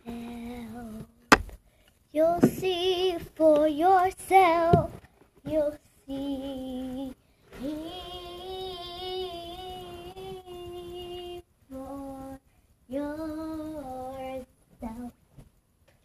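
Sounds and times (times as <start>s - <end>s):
girl singing wordless notes: 0.0s - 15.2s.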